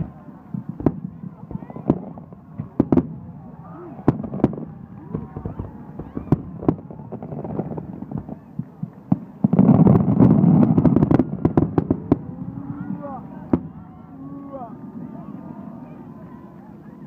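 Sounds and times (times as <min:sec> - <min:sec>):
firework bangs and crackle: 0:00.0 - 0:14.0.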